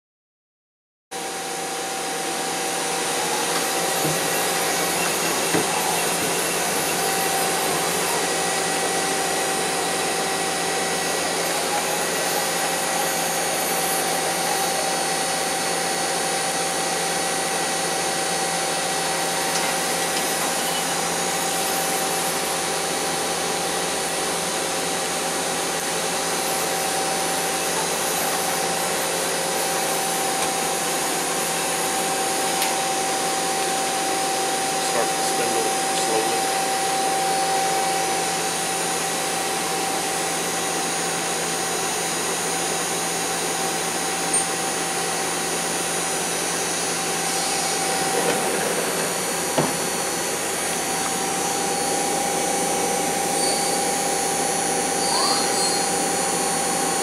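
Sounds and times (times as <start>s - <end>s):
lathe whirring hum and whine: 1.2s - 57.0s.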